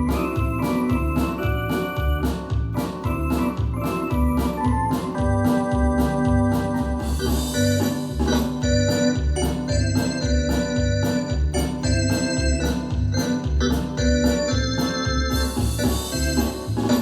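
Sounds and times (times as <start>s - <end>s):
pulsing bass line: 0.0s - 17.0s
steady beat: 0.0s - 17.0s
synthesizer organ chords: 0.0s - 17.0s.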